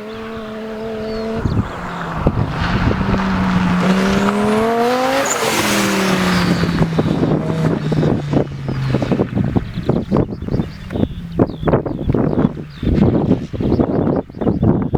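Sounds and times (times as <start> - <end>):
racing engine revving: 0.0 - 13.9
exhaust crackles and pops: 1.0 - 14.8.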